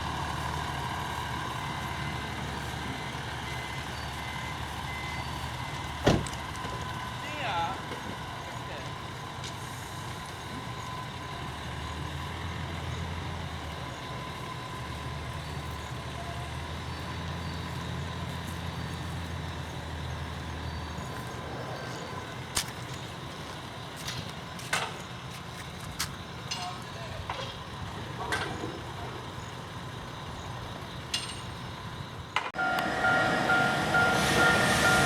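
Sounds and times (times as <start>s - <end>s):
low engine hum: 0.0s - 35.0s.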